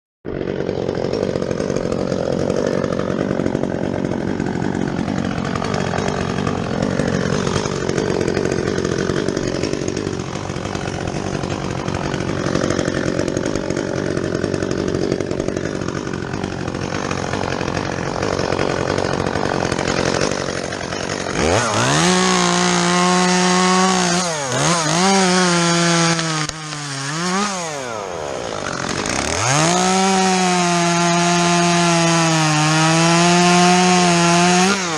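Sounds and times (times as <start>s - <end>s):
chainsaw cutting wood: 0.3s - 34.9s.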